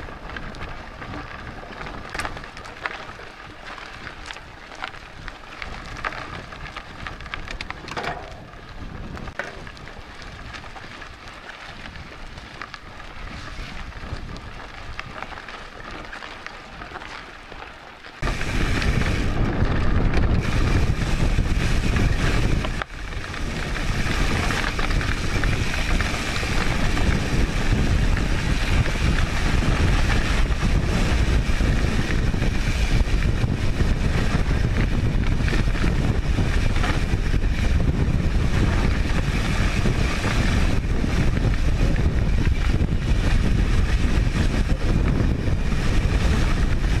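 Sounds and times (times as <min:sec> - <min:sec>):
bike rattling over dirt: 0:00.0 - 0:47.0
wind on microphone: 0:03.6 - 0:16.0, 0:18.2 - 0:47.0.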